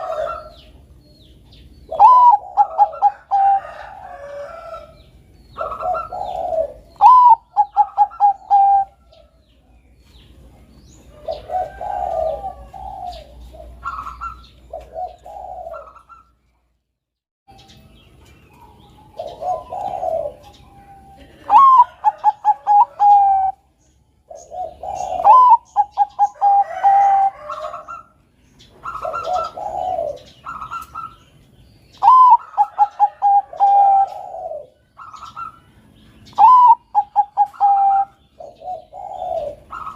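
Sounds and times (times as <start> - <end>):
dove cooing: 0.0 - 0.9, 1.5 - 9.4, 11.0 - 16.4, 18.6 - 31.3, 31.9 - 39.9.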